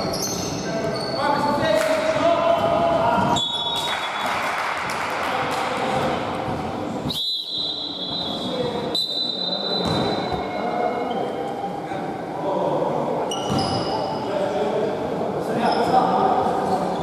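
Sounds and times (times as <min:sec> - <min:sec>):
players' voices: 0:00.1 - 0:17.0.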